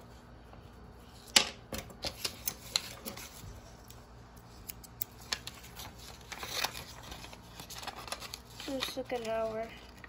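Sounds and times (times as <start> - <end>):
paper rustling: 1.0 - 3.9, 4.8 - 10.0.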